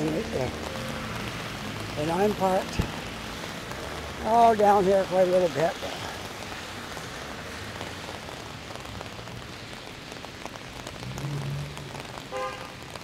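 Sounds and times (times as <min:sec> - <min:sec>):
heavy rain on an umbrella: 0:00.0 - 0:13.0.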